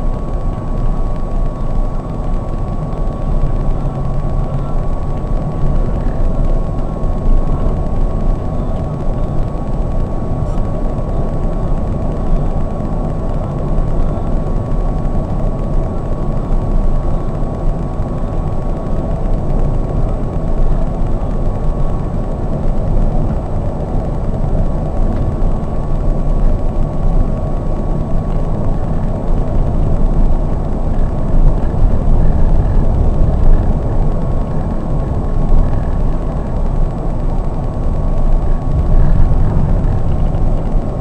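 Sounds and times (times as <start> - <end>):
coach engine and road rumble: 0.0 - 41.0
thin steady whine: 0.0 - 41.0.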